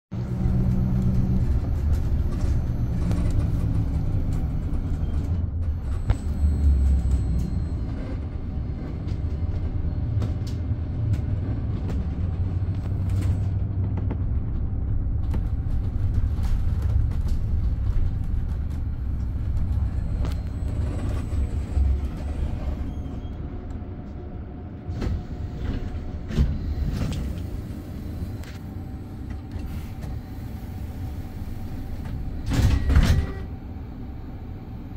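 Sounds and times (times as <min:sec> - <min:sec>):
bus low rumble: 0:00.1 - 0:34.9.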